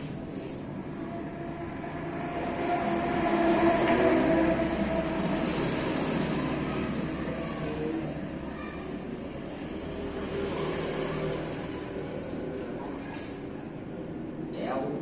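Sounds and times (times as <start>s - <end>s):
vehicle passing: 0.0s - 14.4s.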